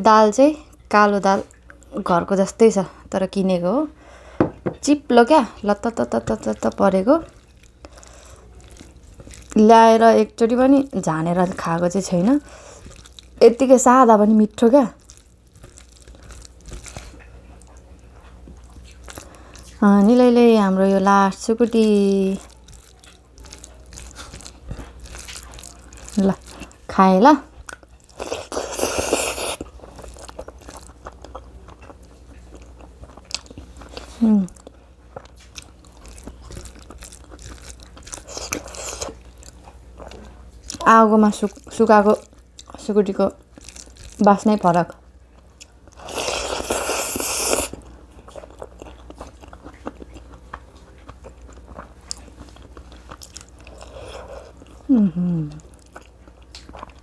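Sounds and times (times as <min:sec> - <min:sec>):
chewing crunchy dried meat: 0:05.5 - 0:57.0.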